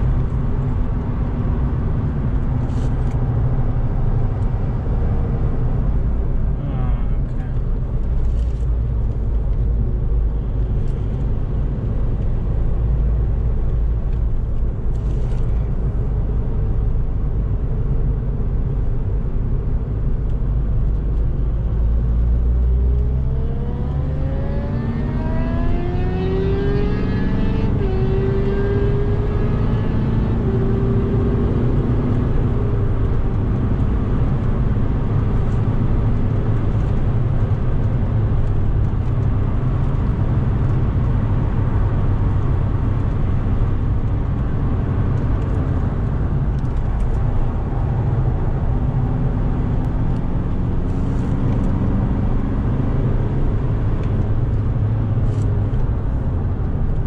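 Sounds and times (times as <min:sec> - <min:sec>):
diesel car engine at speed: 0:00.0 - 0:57.0
road noise: 0:00.0 - 0:57.0.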